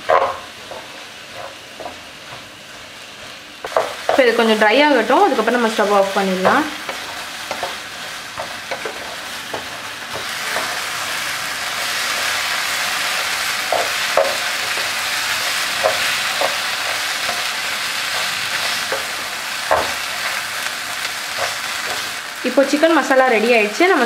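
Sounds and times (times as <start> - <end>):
food sizzling in a pan: 0.0 - 24.0.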